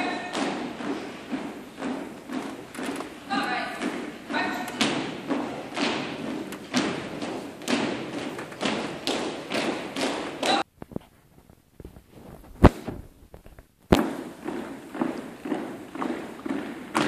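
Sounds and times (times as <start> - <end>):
marching footsteps on wooden floor: 0.0 - 10.7, 12.0 - 17.0.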